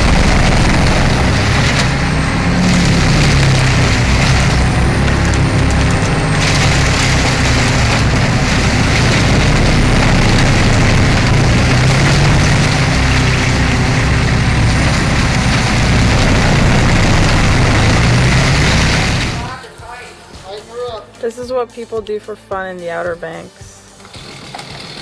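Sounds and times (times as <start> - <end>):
wood chipper chewing logs: 0.0 - 19.6, 23.9 - 25.0.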